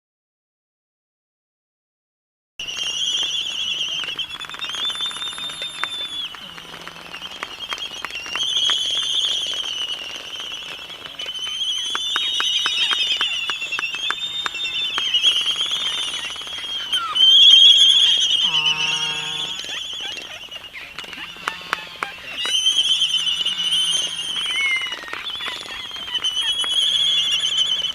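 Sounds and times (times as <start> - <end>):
albatrosses calling: 2.7 - 27.9.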